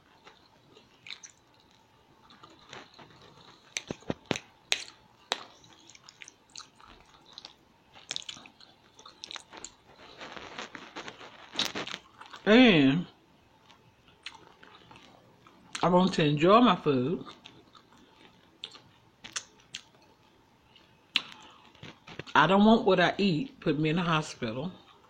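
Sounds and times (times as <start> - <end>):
person chewing food: 0.0 - 12.5, 13.6 - 15.8, 17.2 - 22.3, 24.8 - 25.0.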